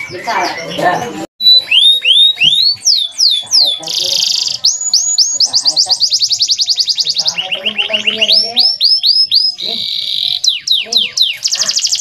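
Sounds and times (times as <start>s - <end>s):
canary singing trills: 0.0s - 12.0s.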